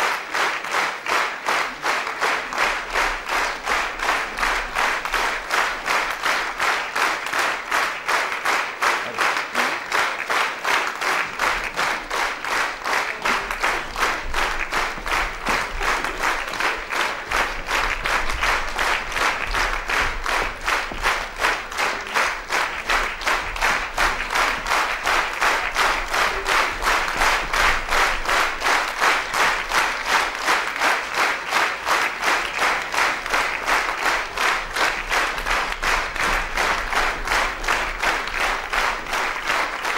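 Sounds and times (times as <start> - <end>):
audience clapping in rhythm: 0.0 - 39.9.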